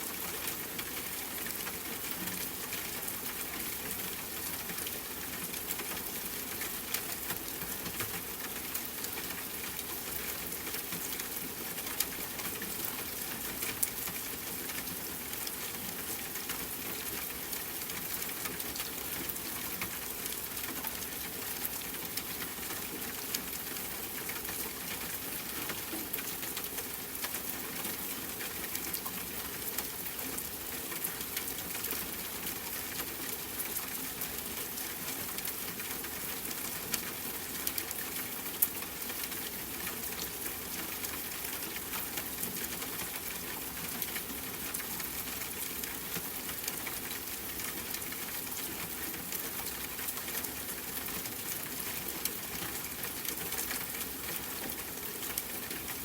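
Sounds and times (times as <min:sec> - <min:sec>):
rain pattering outside window: 0:00.0 - 0:56.0.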